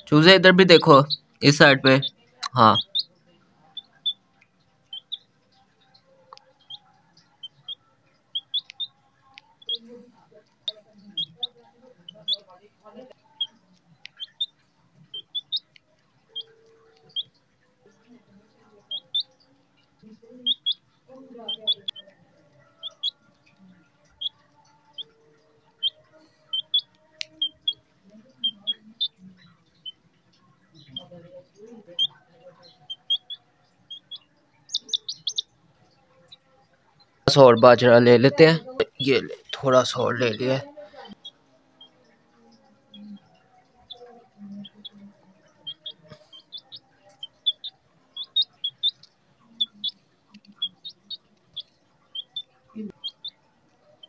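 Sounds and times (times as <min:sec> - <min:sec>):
chick peeping: 0:00.0 - 0:54.0.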